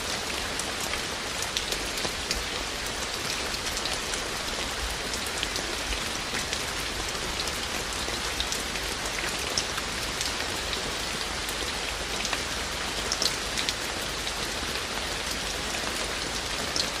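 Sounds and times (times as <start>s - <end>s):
raindrops ticking on surfaces: 0.0s - 17.0s
steady rain falling: 0.0s - 17.0s.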